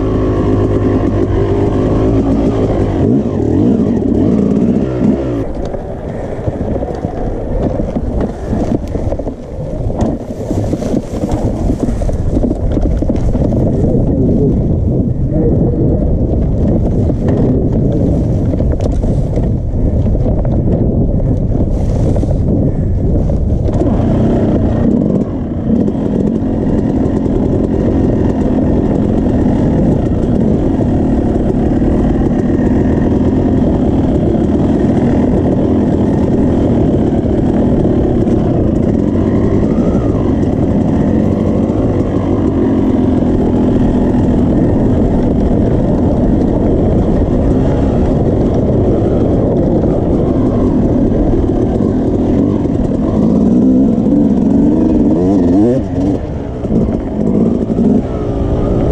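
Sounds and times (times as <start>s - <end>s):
dirt bike engine under throttle: 0.0s - 58.9s.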